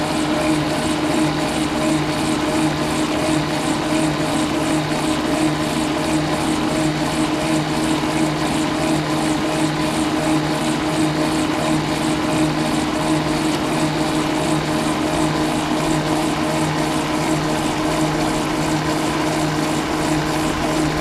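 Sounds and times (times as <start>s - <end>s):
pulsing whir of spinning wheel: 0.0s - 21.0s.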